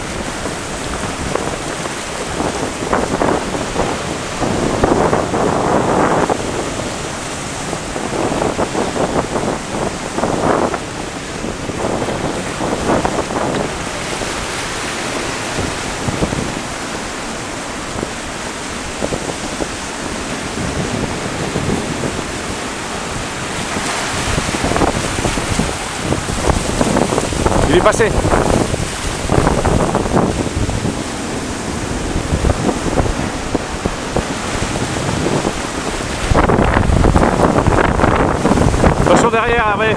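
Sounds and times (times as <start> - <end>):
surf breaking over rocks: 0.0 - 39.9
wind buffeting microphone: 0.0 - 39.9.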